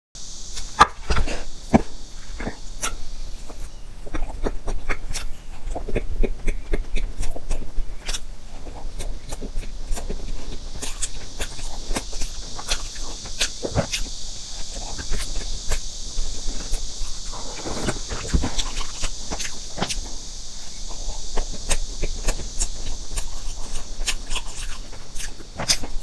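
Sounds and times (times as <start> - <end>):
steady hiss: 0.2 - 26.0
person chewing cake: 0.5 - 26.0.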